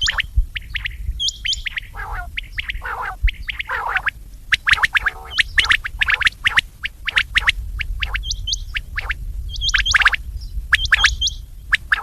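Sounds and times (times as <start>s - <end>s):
quail calling: 0.0s - 10.2s, 10.8s - 12.0s
hooked whistled bird notes: 0.0s - 12.0s.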